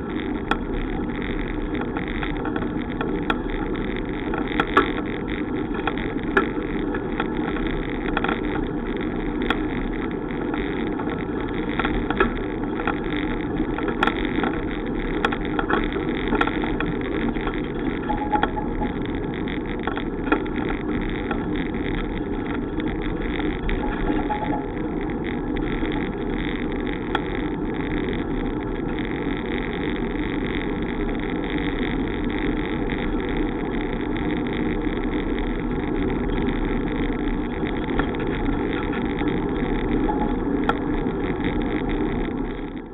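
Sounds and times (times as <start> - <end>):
bicycle tyre and wind noise: 0.0 - 42.9
faint clicks: 0.1 - 42.9.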